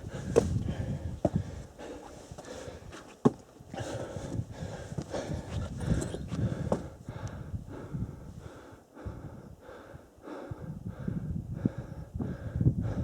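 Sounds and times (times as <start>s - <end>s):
person breathing heavily: 0.0s - 2.9s, 3.7s - 13.0s.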